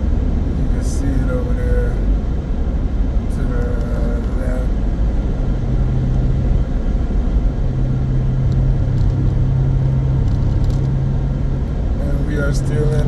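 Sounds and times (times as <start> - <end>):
car interior road and engine rumble: 0.0 - 13.0.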